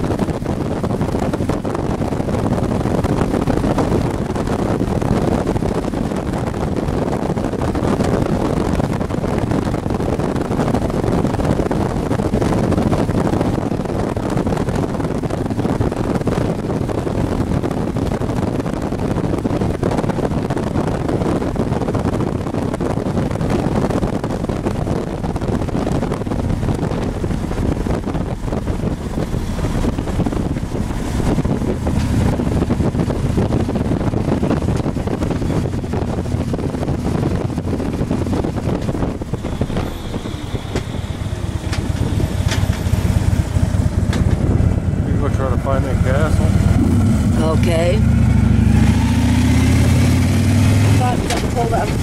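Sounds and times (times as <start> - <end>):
motorcycle engine: 0.0 - 52.0
wind rushing over microphone: 0.0 - 52.0.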